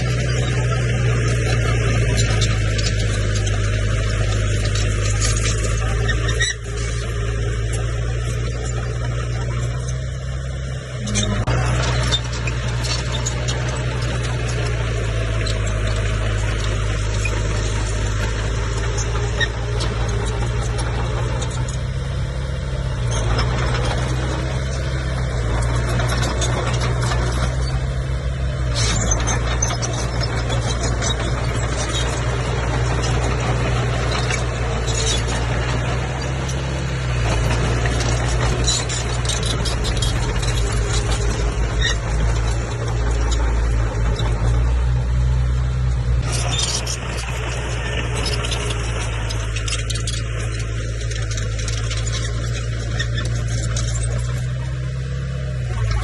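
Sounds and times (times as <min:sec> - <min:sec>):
bulldozer diesel engine running: 0:00.0 - 0:56.0
short squeaks and clicks: 0:00.0 - 0:56.0.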